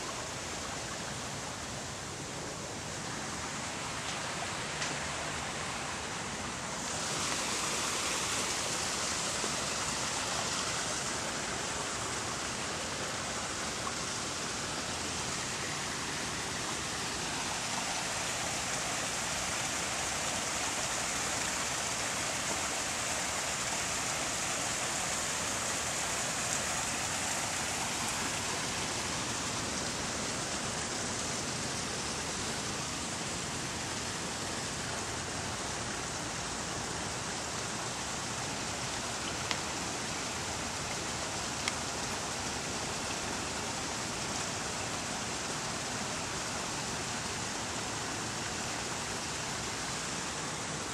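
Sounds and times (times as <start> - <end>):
rushing water of waterfall: 0.0 - 50.9.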